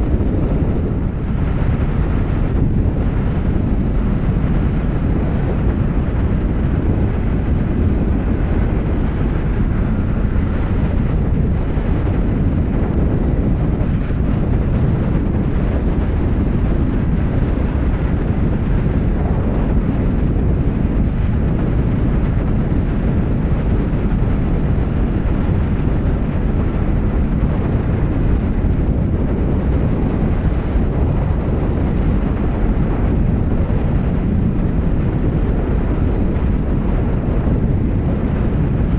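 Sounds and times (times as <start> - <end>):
wind on microphone: 0.0 - 38.9.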